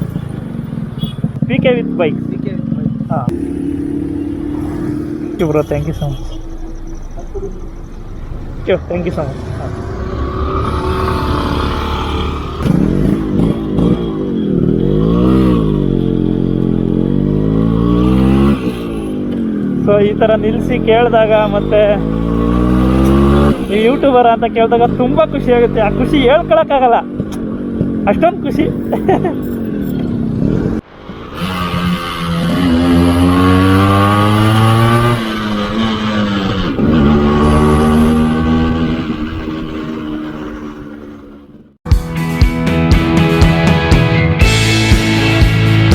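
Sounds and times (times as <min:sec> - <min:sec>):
motorcycle engine accelerating: 0:00.0 - 0:41.8.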